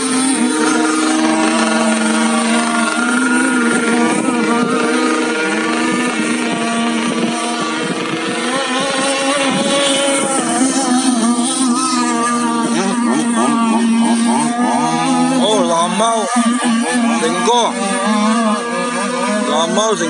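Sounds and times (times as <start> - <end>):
model boat motors whining: 0.0 - 20.0.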